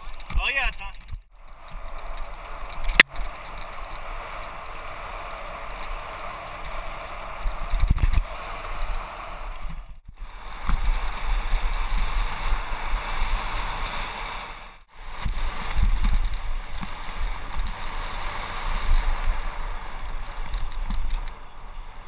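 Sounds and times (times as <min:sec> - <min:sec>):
bike jolting over dirt trail: 0:00.0 - 0:22.0
wind rushing over microphone: 0:00.0 - 0:22.0.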